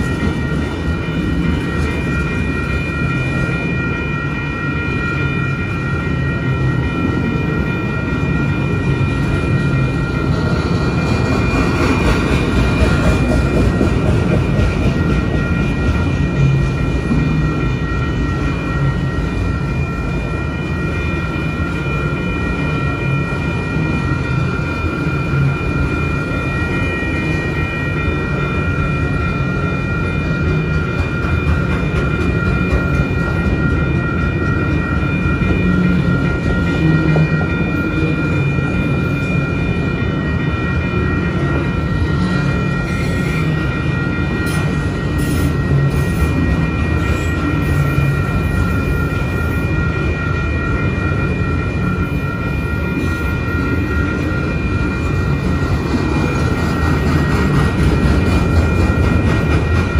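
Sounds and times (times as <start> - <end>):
crossing bell ringing: 0.0 - 59.9
train wheels rumbling on rails: 0.0 - 59.9.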